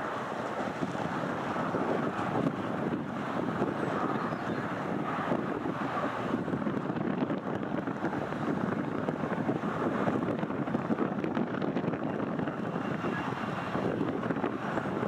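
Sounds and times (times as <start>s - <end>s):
jet engines roaring overhead: 0.0s - 15.0s
wind on microphone: 0.0s - 15.0s.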